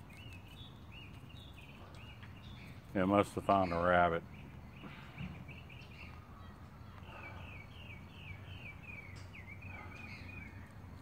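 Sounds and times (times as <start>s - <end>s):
bird singing falling notes: 0.0s - 11.0s.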